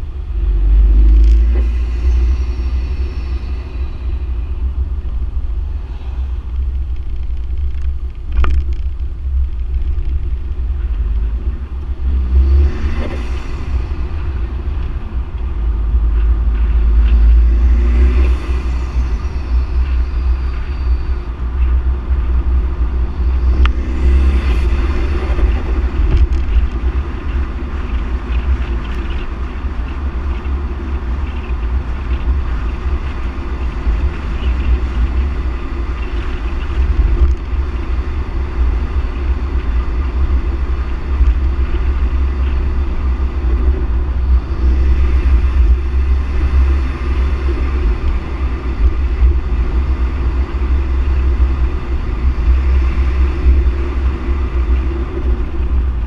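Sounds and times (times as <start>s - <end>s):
tyre and engine noise: 0.0s - 56.0s
wind buffeting microphone: 0.0s - 56.0s.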